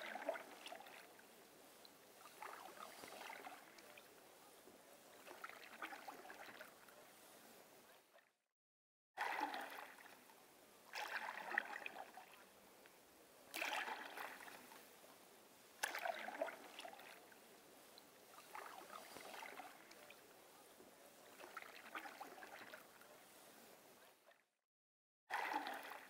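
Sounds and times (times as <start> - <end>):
paddle strokes splashing water: 0.0 - 8.0, 9.2 - 24.3, 25.3 - 26.0
faint water hiss: 0.0 - 8.2, 9.2 - 24.4, 25.3 - 26.0.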